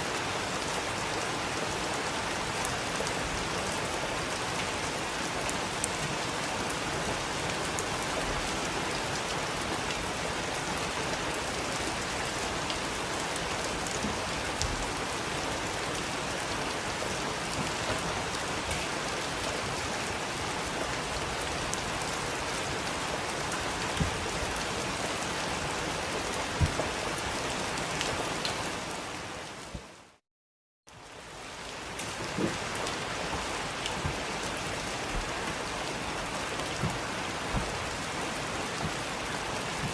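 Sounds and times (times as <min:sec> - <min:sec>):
heavy rain falling: 0:00.0 - 0:30.2, 0:30.9 - 0:39.9.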